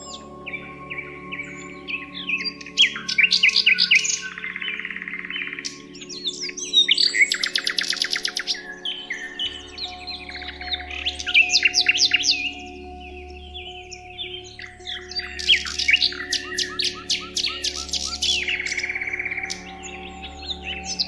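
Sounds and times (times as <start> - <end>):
soft music bed: 0.0 - 21.0
songbirds chirping: 0.0 - 21.0.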